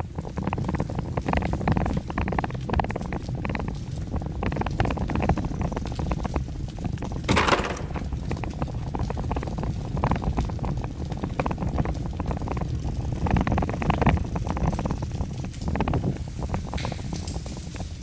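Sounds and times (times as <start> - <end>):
bicycle rattling: 0.1 - 18.0.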